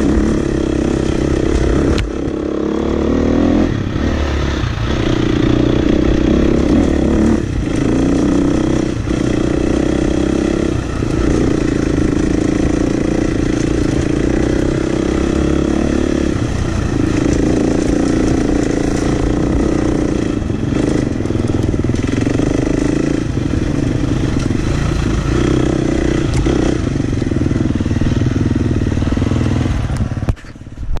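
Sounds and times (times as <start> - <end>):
dirt bike engine running: 0.0 - 31.0.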